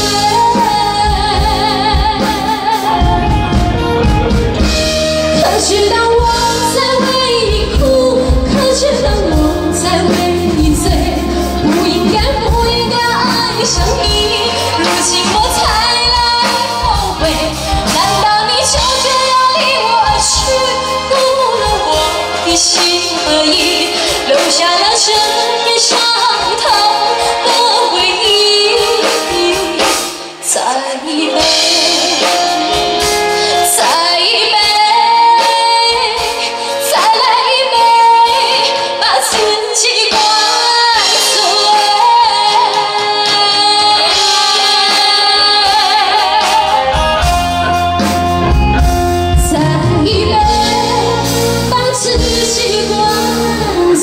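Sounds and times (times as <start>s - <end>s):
band playing: 0.0s - 54.0s
woman singing into microphone: 0.0s - 54.0s.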